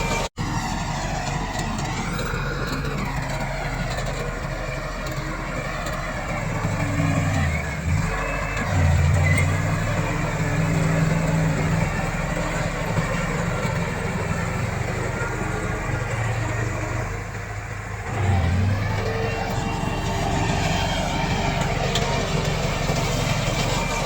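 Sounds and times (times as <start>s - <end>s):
bulldozer diesel engine under load: 0.0s - 24.0s.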